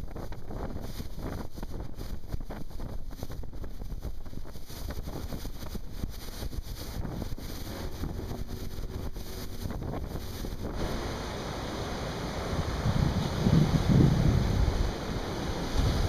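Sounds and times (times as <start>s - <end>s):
boat low rumble: 0.0s - 16.0s
wind buffeting microphone: 0.0s - 16.0s.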